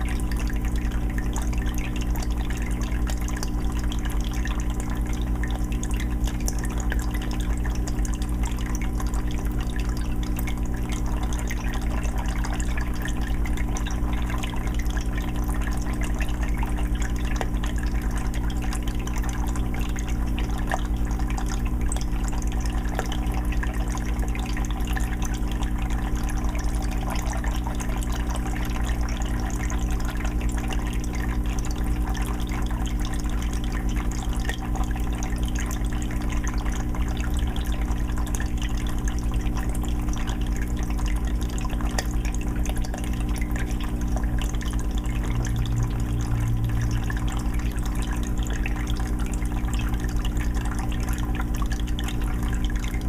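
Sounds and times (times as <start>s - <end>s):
filter humming: 0.0s - 53.0s
water dripping: 0.0s - 53.0s
water trickling and bubbling: 0.0s - 53.0s.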